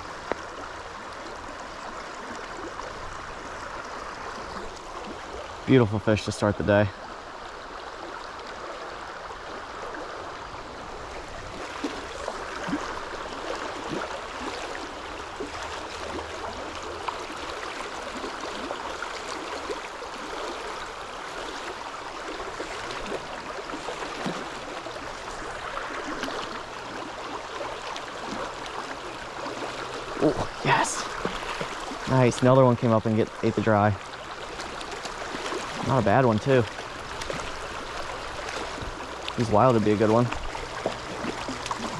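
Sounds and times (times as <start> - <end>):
stream water flowing: 0.0 - 41.9.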